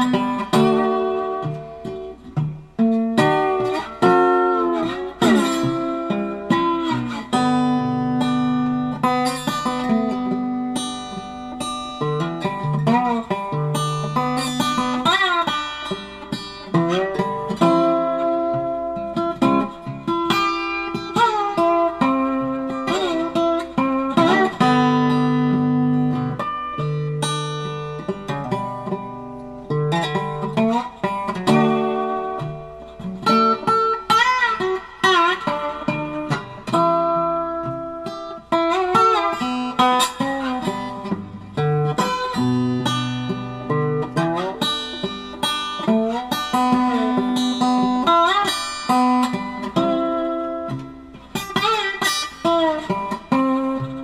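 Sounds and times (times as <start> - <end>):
solo guitar playing: 0.0 - 54.0.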